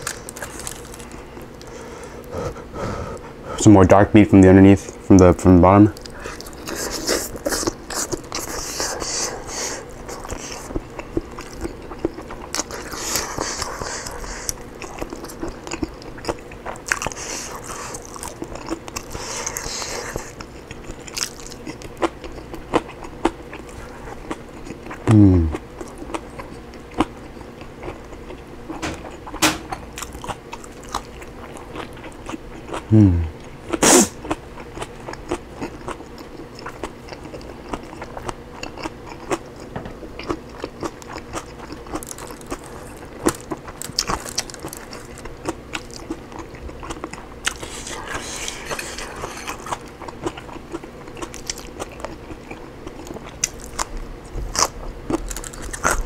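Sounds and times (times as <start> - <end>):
chewing and lip-smacking: 5.9 - 56.0.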